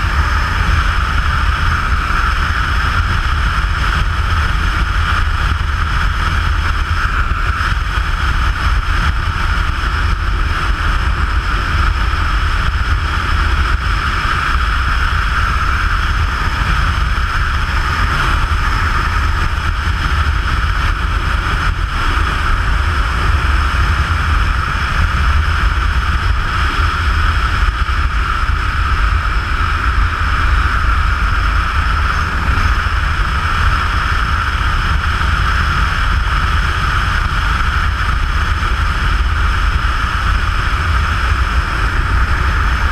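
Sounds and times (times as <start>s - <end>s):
road noise: 0.0s - 42.9s.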